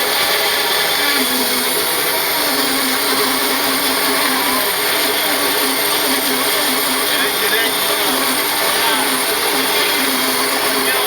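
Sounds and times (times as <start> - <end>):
sawmill mechanical whir: 0.0 - 11.0.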